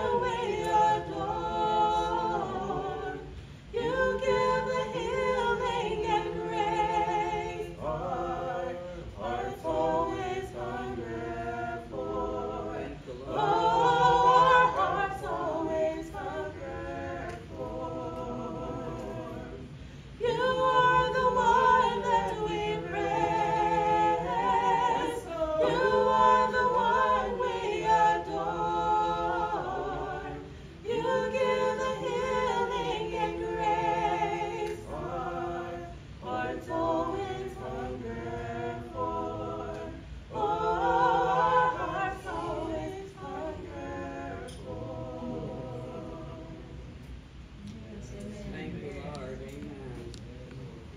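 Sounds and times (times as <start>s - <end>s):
trio singing in harmony: 0.0s - 49.2s.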